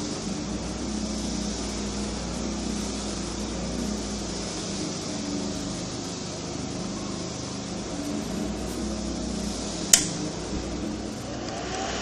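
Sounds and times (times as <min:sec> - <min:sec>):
machine hum with hiss: 0:00.0 - 0:12.0.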